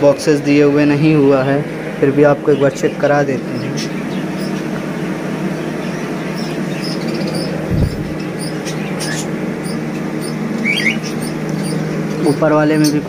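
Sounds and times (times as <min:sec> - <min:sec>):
background hum and hiss: 0:00.0 - 0:13.0
small birds chirping: 0:00.1 - 0:13.0.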